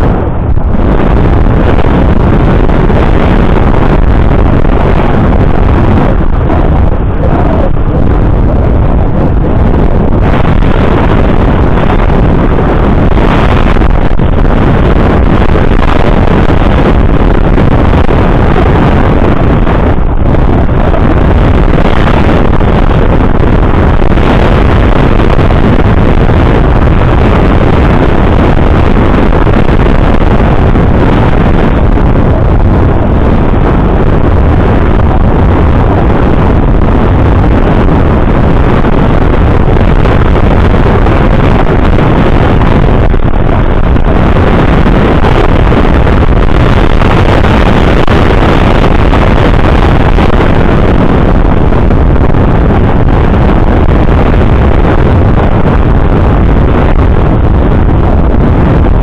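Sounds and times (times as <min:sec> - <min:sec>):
wind blowing across microphone: 0:00.0 - 0:59.0.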